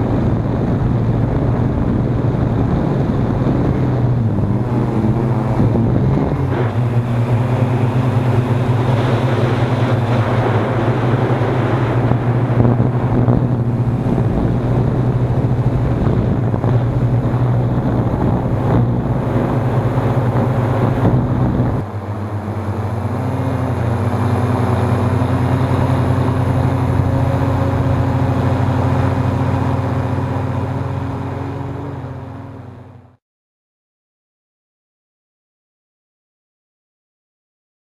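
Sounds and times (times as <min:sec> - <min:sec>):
wind buffeting microphone: 0:00.0 - 0:32.8
drone motors humming: 0:00.0 - 0:33.1.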